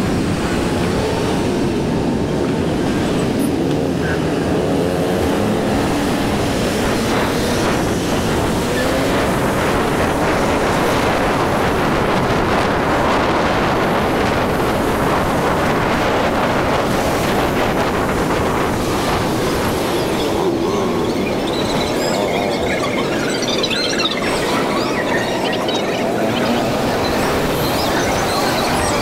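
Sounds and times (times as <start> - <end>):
road noise: 0.0 - 29.0
wind rush: 0.0 - 29.0.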